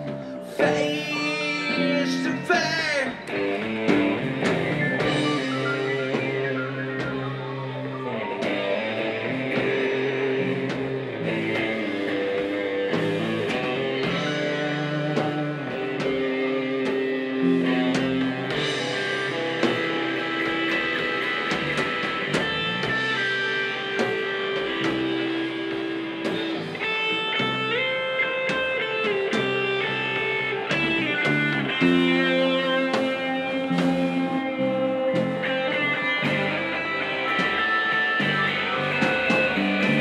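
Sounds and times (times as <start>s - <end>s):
electric guitars: 0.0s - 40.0s
rock band playing: 0.0s - 40.0s.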